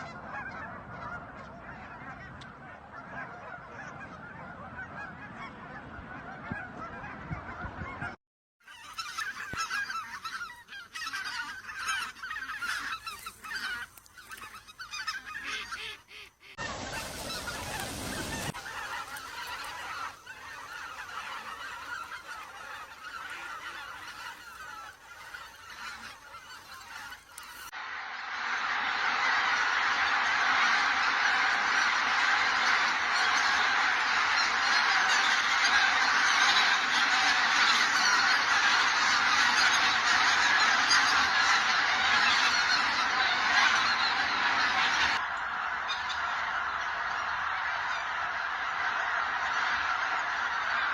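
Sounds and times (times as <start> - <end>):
geese honking: 0.0 - 50.9.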